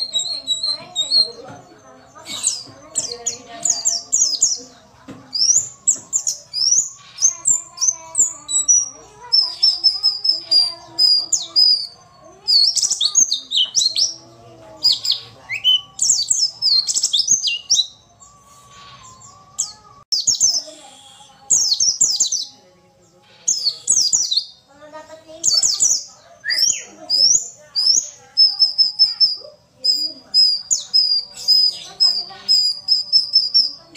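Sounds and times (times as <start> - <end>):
bird chirping calls: 0.0 - 33.9.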